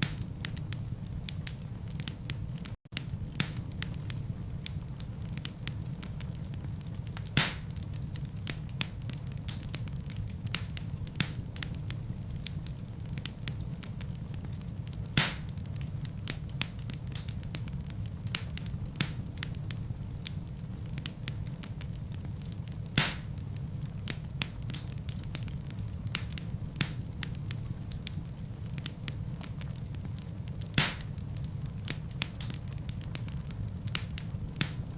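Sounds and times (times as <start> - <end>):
fire crackling in fireplace: 0.0 - 34.9
sharp pops of fire: 0.0 - 34.9.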